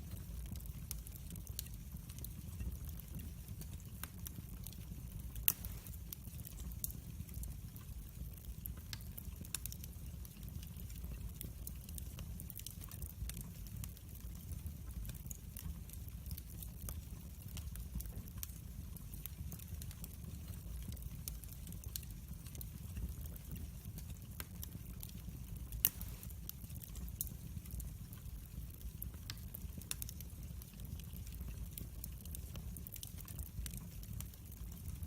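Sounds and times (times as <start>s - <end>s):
low rumble of flames: 0.0s - 35.0s
wood fire crackling and popping: 0.0s - 35.0s.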